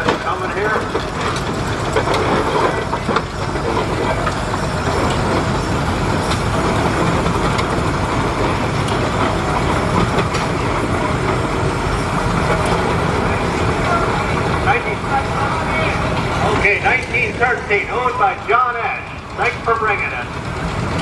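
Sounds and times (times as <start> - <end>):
tractor engine rumbling: 0.0 - 21.0.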